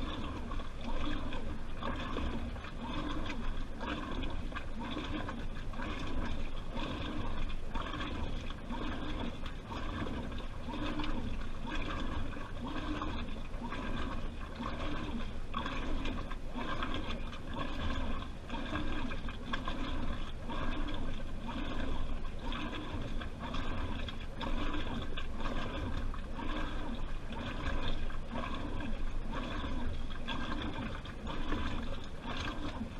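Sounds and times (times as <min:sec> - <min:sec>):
washing machine water sloshing: 0:00.0 - 0:32.9.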